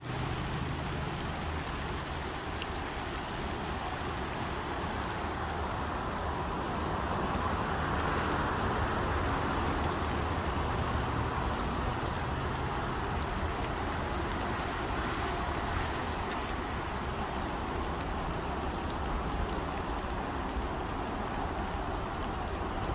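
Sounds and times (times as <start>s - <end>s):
road traffic rumble: 0.0s - 22.9s.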